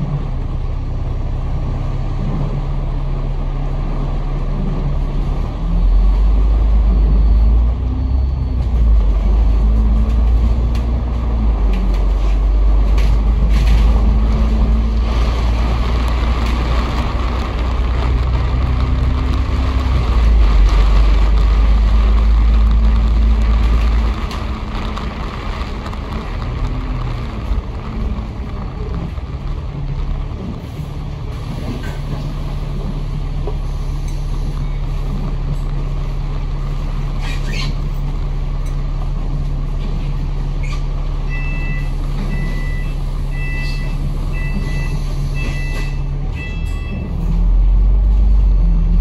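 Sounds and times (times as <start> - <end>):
road noise hiss: 0.0 - 46.4
bus engine rumbling: 0.0 - 49.0.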